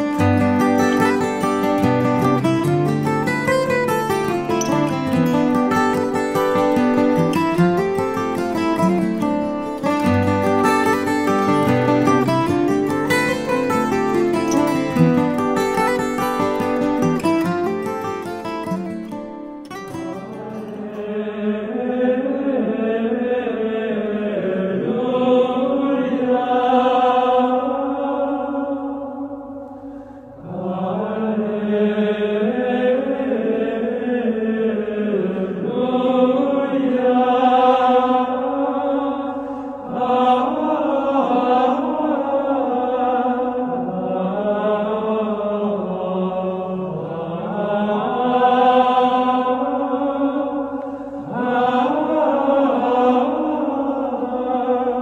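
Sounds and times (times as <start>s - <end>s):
slow chanted singing: 0.0s - 55.0s.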